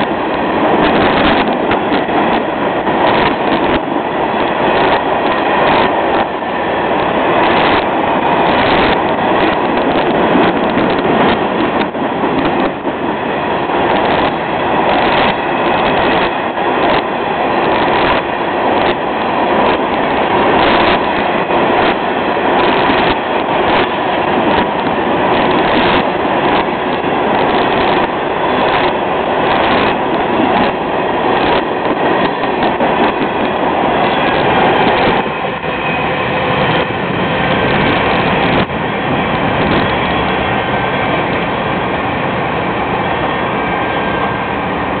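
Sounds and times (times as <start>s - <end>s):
freight train rumble: 0.0s - 45.0s
train wheels clacking on rail joints: 0.0s - 45.0s.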